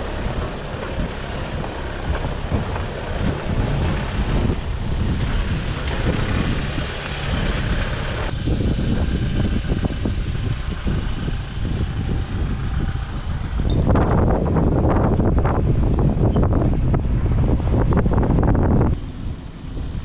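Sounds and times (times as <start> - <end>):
tyres rumbling on dirt track: 0.0 - 20.0.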